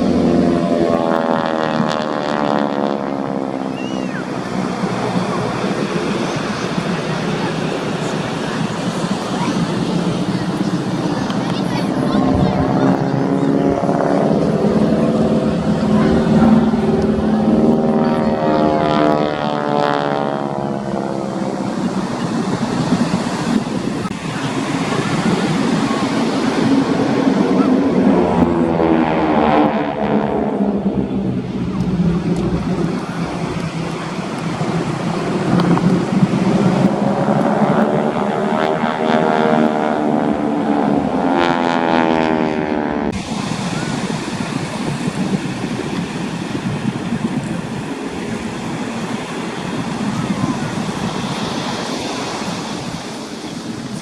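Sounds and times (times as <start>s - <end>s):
propeller aircraft flying past: 0.0s - 54.0s.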